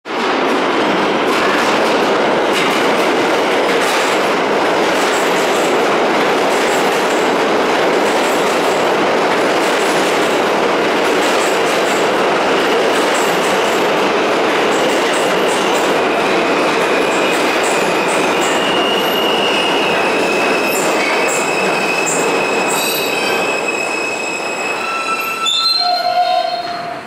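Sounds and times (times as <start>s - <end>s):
subway train wheels rumbling: 0.0s - 27.0s
clickety-clack of rail joints: 0.1s - 23.9s.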